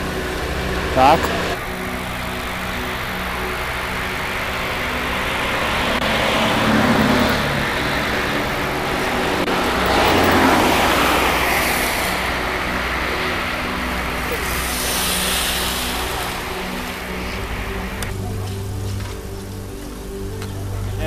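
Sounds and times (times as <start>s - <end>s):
steady low hum: 0.0s - 21.0s
vehicles passing: 0.0s - 21.0s.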